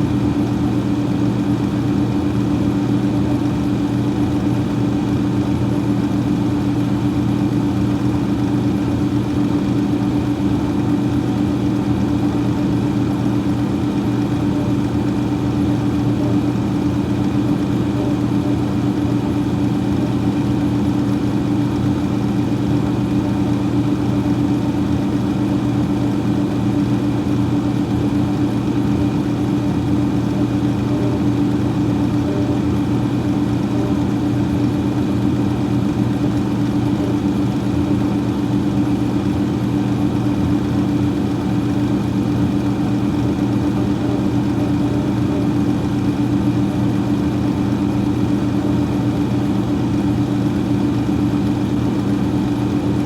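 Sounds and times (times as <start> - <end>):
freezer fan running: 0.0 - 53.0.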